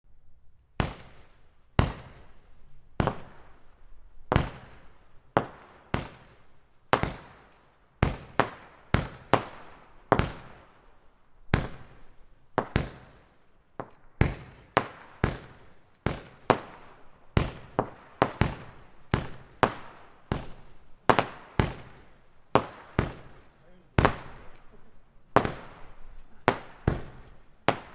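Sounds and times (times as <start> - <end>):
fireworks bangs: 0.8 - 10.9, 11.5 - 27.9.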